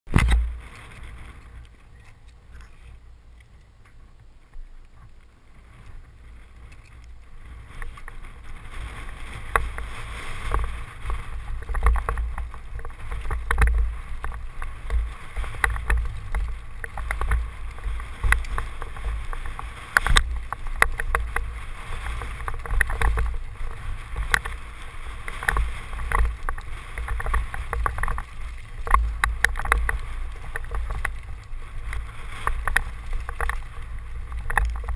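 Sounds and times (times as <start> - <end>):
bike rattling over stones: 0.1 - 34.9
wind rumbling on microphone: 0.1 - 34.9.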